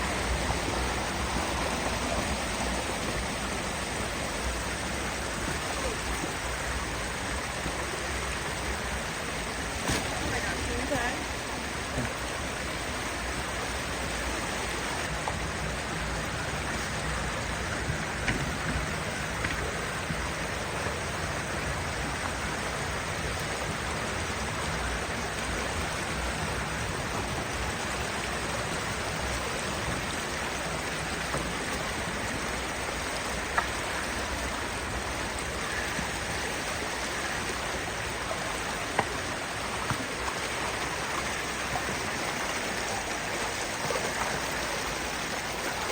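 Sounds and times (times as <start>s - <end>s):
rushing creek water: 0.0s - 45.9s.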